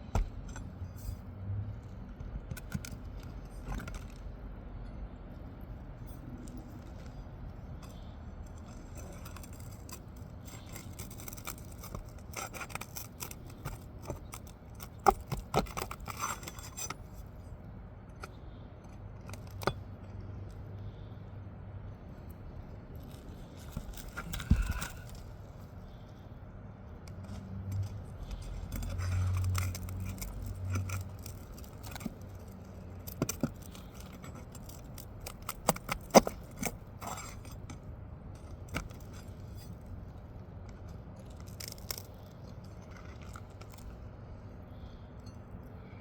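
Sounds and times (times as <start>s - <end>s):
pry bar scraping shingles: 6.0s - 21.2s, 22.1s - 45.1s.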